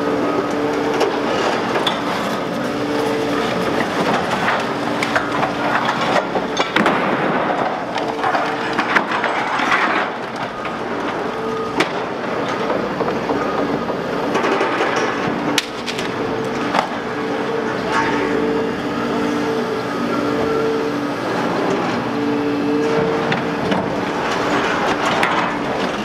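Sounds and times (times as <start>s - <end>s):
excavator engine and hydraulics: 0.0s - 26.0s
cracking and clattering debris: 0.4s - 18.4s, 22.8s - 26.0s.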